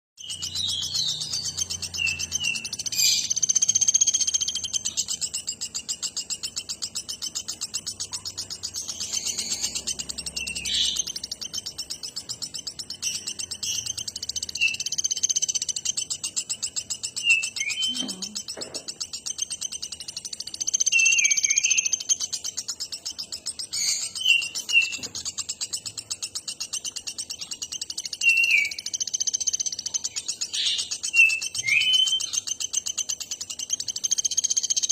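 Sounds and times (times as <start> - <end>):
bird chirps: 0.2 - 34.9
bird trilling: 0.2 - 34.9.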